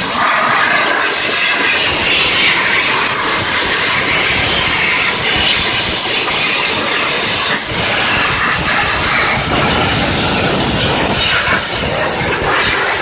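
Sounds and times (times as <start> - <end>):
steam jet hissing: 0.0 - 13.0.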